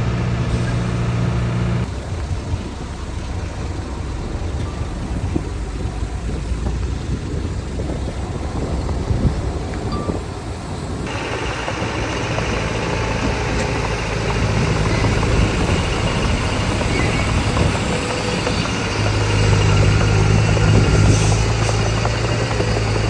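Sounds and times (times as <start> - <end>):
heavy machinery diesel engine: 0.0 - 23.0
wide hiss: 0.1 - 23.0.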